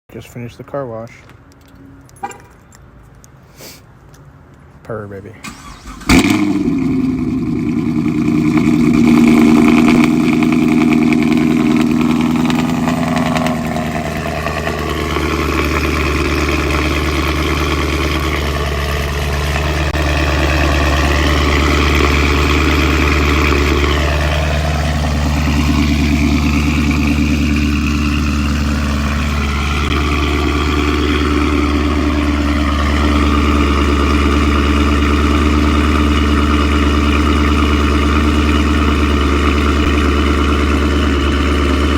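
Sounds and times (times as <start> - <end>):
car engine idling: 5.4 - 41.9.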